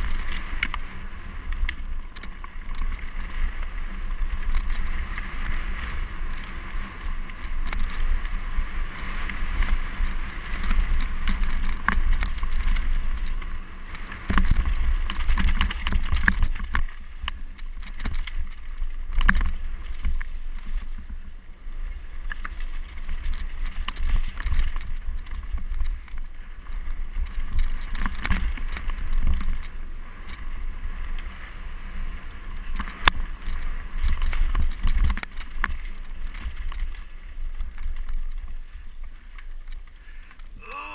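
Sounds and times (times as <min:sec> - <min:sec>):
bike knocking and rattling on rocks: 0:00.0 - 0:21.2, 0:21.8 - 0:40.6
tyres rumbling on gravel: 0:00.0 - 0:40.9.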